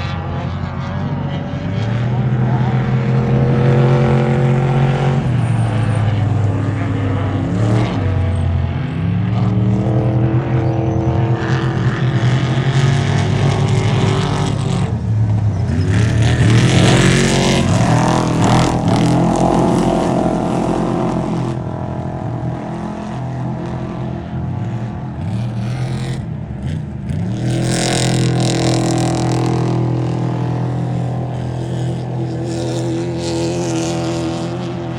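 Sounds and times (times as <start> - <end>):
race vehicle engines revving: 0.0 - 34.9.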